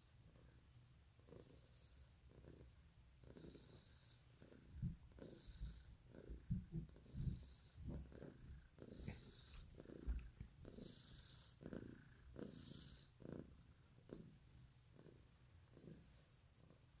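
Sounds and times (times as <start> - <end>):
cat purring softly: 0.0 - 17.0.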